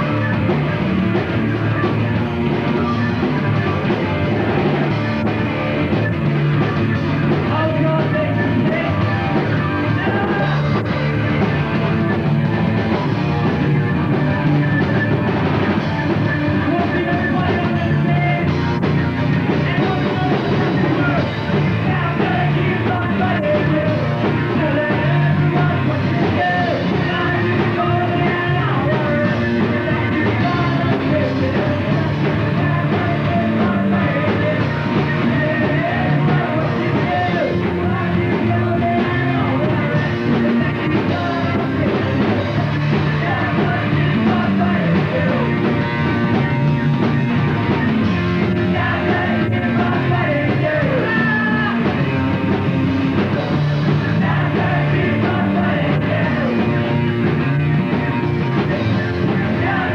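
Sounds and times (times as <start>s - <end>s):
person singing: 0.0s - 46.8s, 47.8s - 57.5s, 58.5s - 59.9s
drums: 0.0s - 59.9s
electric guitar: 0.0s - 59.9s
live rock band playing: 0.0s - 59.9s.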